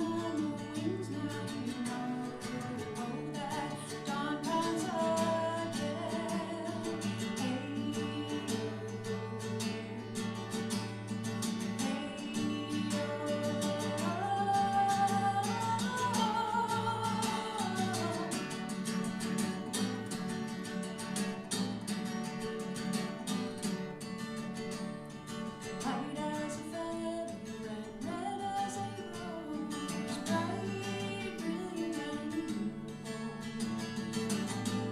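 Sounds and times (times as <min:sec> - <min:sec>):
acoustic guitar playing folk: 0:00.0 - 0:34.9.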